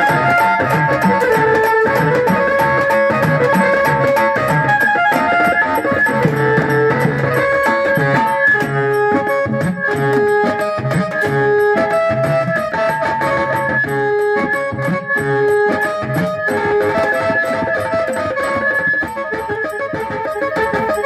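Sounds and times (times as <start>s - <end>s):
barrel drum rhythm: 0.0s - 21.0s
electronic keyboard melody: 0.0s - 21.0s.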